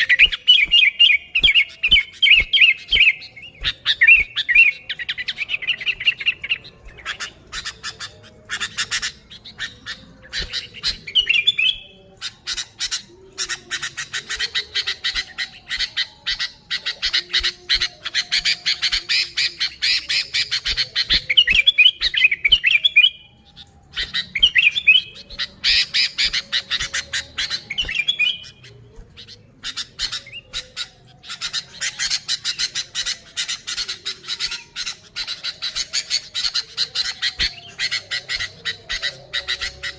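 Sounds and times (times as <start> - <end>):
bird harsh chattering: 0.0 - 39.9.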